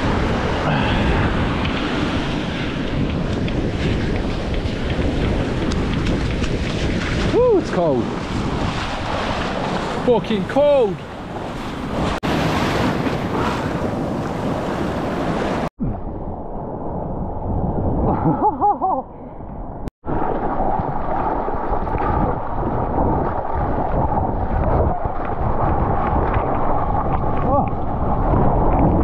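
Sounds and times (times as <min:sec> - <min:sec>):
seawater rushing and splashing: 0:00.0 - 0:15.7, 0:20.0 - 0:29.0.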